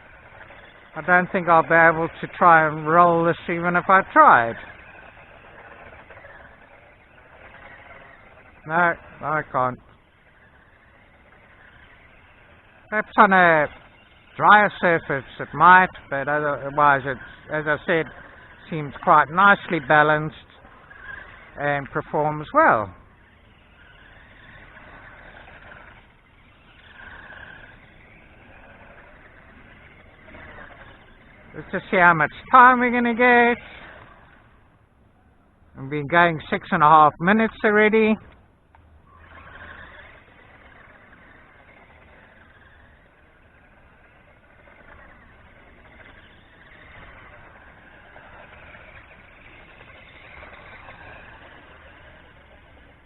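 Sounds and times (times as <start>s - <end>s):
toy car electric motor whining: 0.0s - 53.0s.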